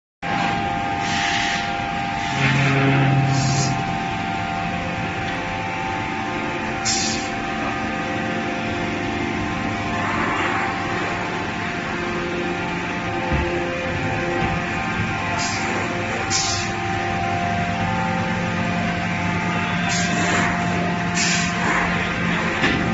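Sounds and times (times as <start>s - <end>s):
machinery humming: 0.2s - 22.9s.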